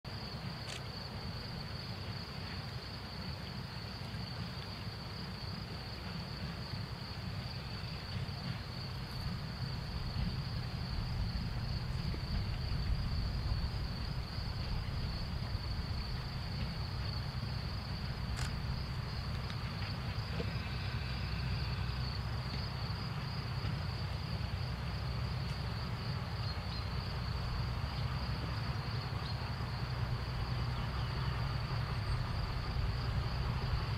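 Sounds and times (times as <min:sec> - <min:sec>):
diesel locomotive engine rumble: 0:00.1 - 0:33.9
high insect drone: 0:00.1 - 0:33.9.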